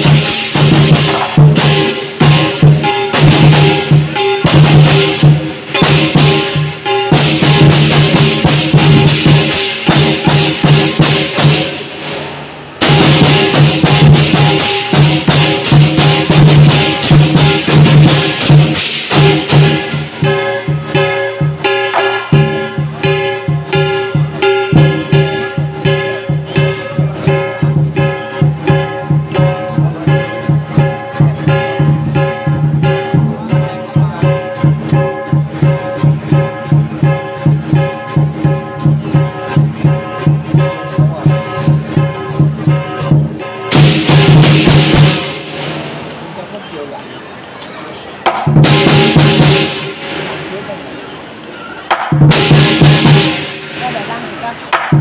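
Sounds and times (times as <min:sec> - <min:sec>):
gong ringing: 0:00.0 - 0:12.2, 0:12.8 - 0:46.1
drum and cymbal music: 0:00.0 - 0:46.5, 0:48.2 - 0:55.0.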